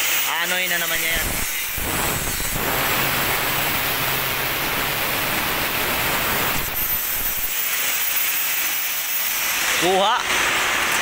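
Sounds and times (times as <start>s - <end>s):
high whine of spinning disc: 0.0s - 9.8s
angle grinder grinding steel: 0.0s - 11.0s.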